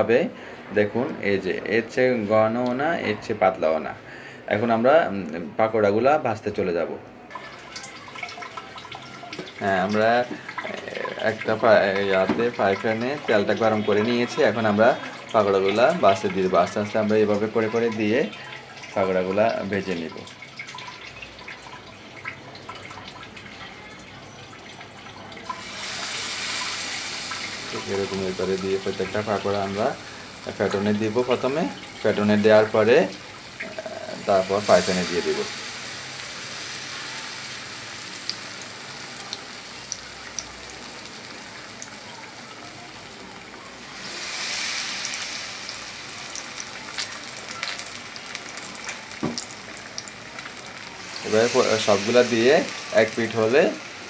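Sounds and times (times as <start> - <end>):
hot oil ticking in a pan: 7.3 - 23.6, 24.5 - 54.0.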